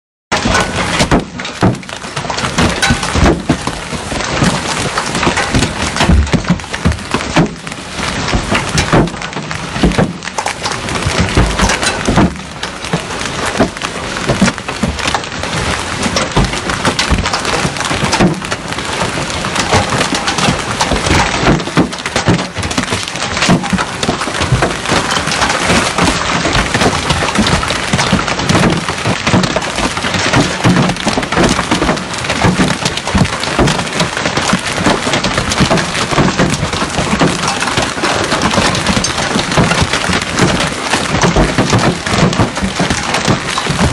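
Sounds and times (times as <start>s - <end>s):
hail and heavy rain on car: 0.3s - 43.9s.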